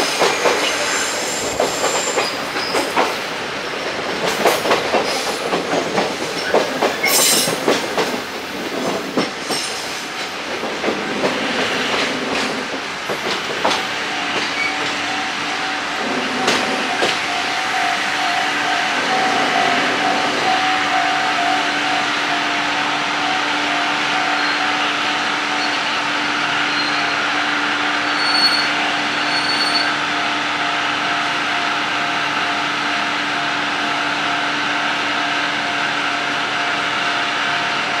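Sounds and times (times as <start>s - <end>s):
train rolling to a stop: 0.0s - 38.0s.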